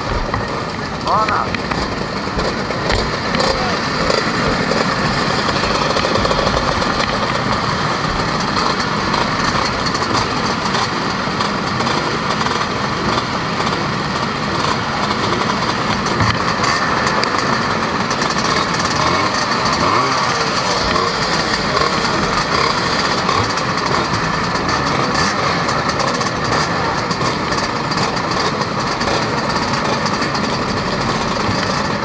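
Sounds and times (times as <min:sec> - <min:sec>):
scooter engines idling: 0:00.0 - 0:32.0.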